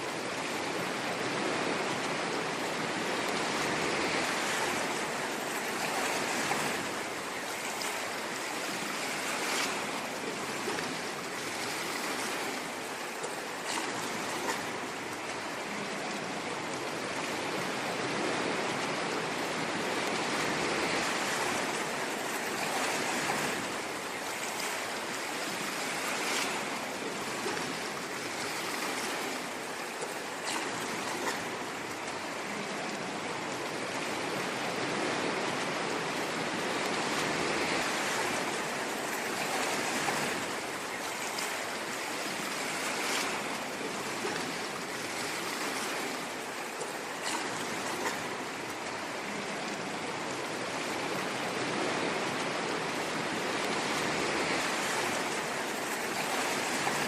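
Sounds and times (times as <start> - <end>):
ocean waves washing on shore: 0.0 - 57.0.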